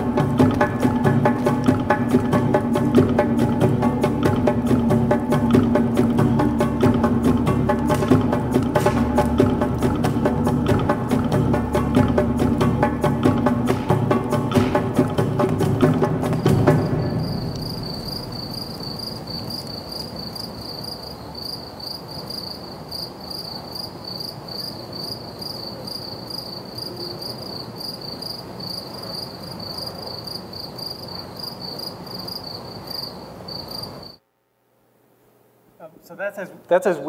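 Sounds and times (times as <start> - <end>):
crickets chirping: 0.0 - 34.3
rushing night forest ambience: 0.0 - 37.0.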